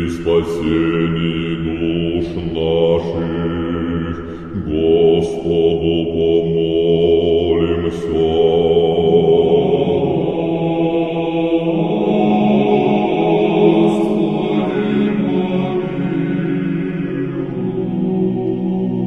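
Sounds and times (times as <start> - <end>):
slow chant of held notes: 0.0 - 19.0.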